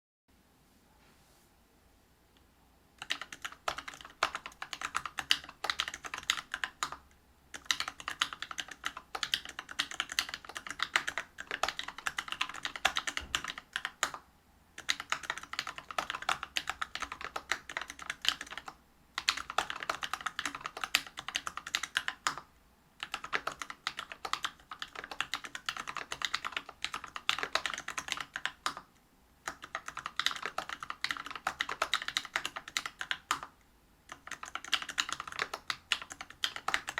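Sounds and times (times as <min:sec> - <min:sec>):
mechanical keyboard typing: 0:03.0 - 0:14.2, 0:14.8 - 0:36.9.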